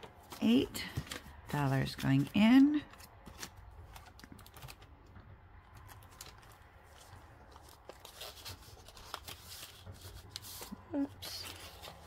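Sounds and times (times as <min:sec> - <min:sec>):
paper bills and plastic sleeves rustling: 0:00.0 - 0:12.0.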